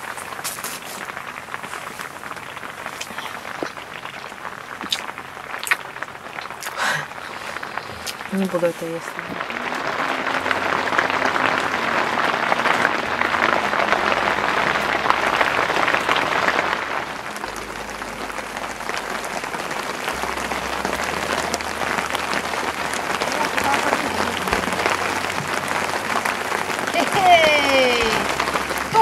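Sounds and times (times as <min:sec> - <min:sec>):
heavy rain on tent fabric: 0:00.0 - 0:29.0.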